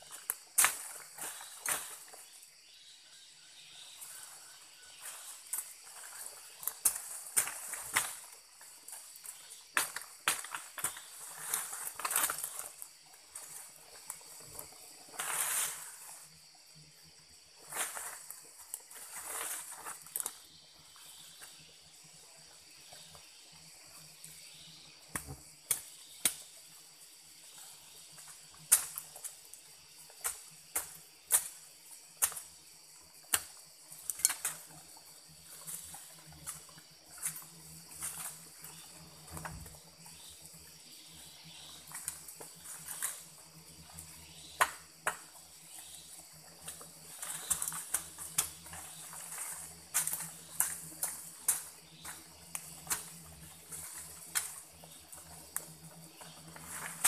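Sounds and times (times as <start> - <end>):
tool knocking ground and twigs: 0.0 - 2.4, 3.8 - 16.4, 17.6 - 57.0.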